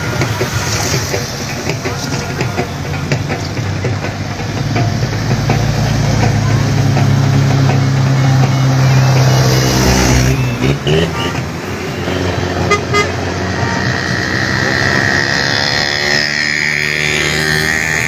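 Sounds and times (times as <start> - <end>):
car engines running: 0.0 - 18.0.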